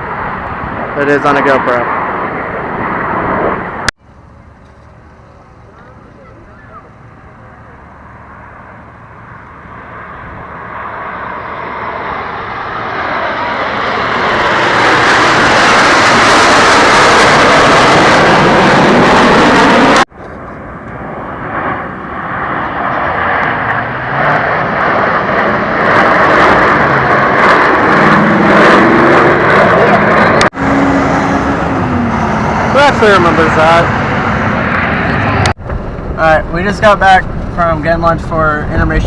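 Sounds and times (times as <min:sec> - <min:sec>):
aircraft flying past low: 0:00.0 - 0:39.0.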